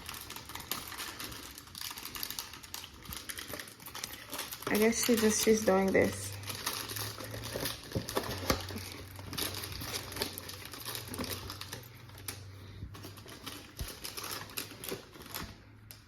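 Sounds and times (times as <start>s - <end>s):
small objects clicking and rustling: 0.0s - 16.0s.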